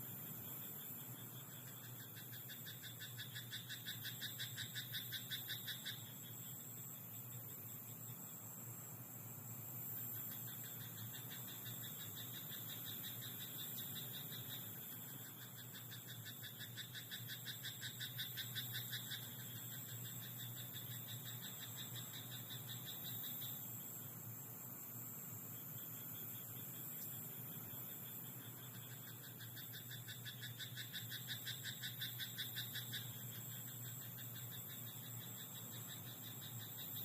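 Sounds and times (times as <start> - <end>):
frogs croaking: 0.0 - 37.0
steady high hiss: 0.0 - 37.0.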